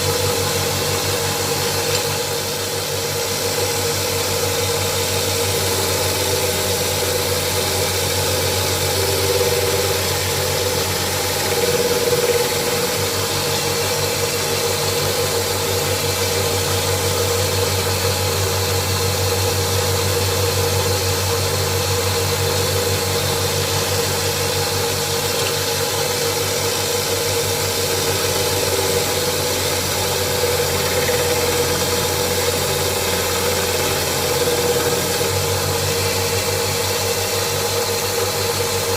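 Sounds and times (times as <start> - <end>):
electric grinder humming and hissing: 0.0 - 38.9.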